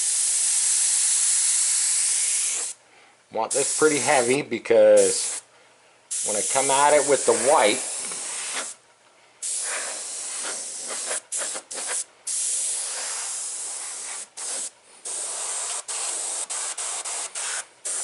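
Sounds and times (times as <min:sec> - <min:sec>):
airbrush spraying paint: 0:00.0 - 0:02.8, 0:03.5 - 0:04.3, 0:05.0 - 0:05.4, 0:06.1 - 0:08.8, 0:09.4 - 0:18.0.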